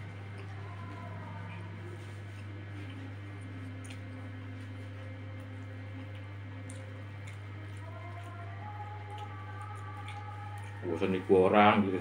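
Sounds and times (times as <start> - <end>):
low electrical hum: 0.0 - 12.0
wet chewing: 0.1 - 10.9.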